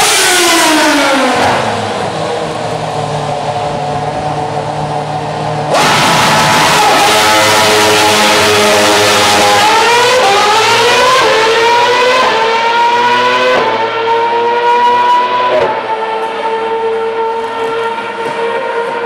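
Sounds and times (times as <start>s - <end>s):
racing car accelerating: 0.0s - 19.0s.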